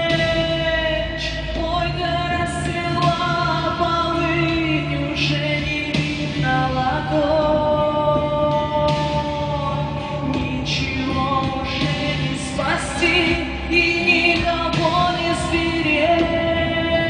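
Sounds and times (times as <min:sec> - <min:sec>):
slow song with singing: 0:00.0 - 0:17.0.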